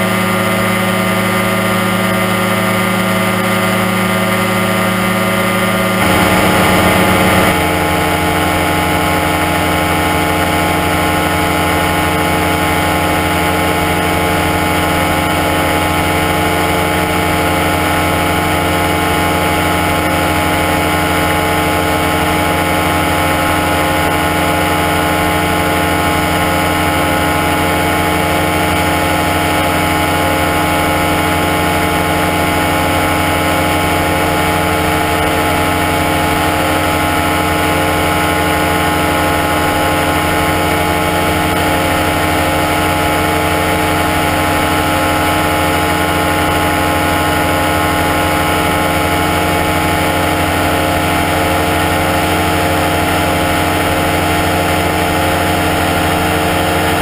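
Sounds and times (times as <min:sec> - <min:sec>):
small aircraft engine and propeller: 0:00.0 - 0:57.0.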